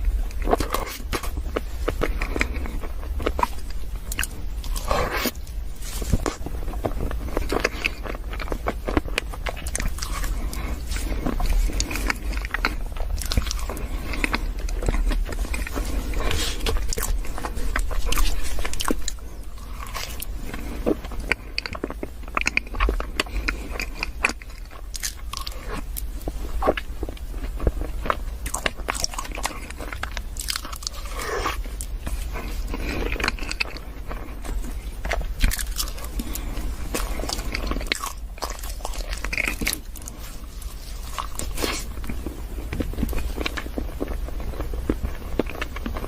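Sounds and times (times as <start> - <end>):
biting and chewing: 0.0 - 46.0
crunching pastry: 0.0 - 46.0
low hum: 0.0 - 46.0.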